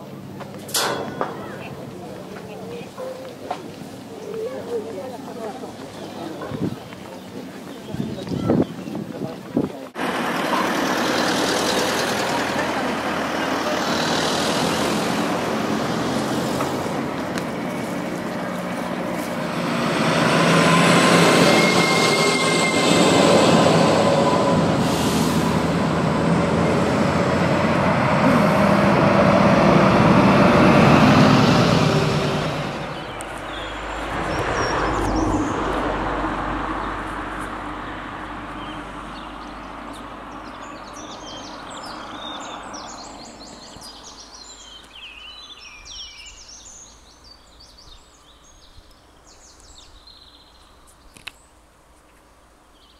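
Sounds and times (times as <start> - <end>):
vehicles driving past: 0.0 - 48.2.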